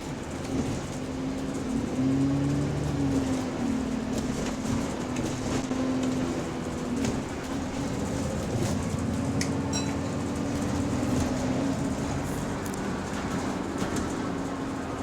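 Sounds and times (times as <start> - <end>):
bus drivetrain whine: 0.0 - 15.0
road rumble: 0.0 - 15.0.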